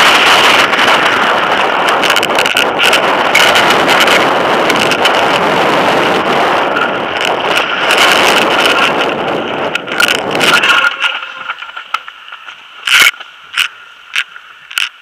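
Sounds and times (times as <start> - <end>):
bike rattling and clicking: 0.0 - 15.0
bike tyres rolling on dirt: 0.0 - 15.0
wind rushing over camera: 0.0 - 15.0.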